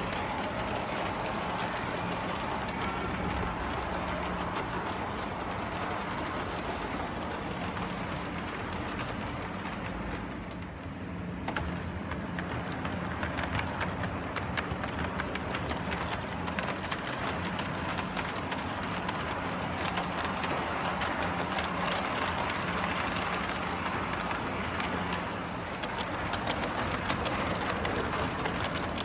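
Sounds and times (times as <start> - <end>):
model trains clicking on track: 0.0 - 29.0.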